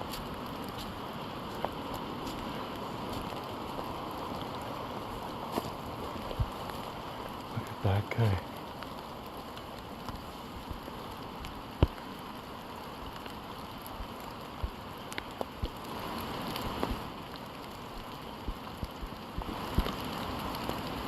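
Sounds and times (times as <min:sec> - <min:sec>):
rain falling in forest: 0:00.0 - 0:21.0.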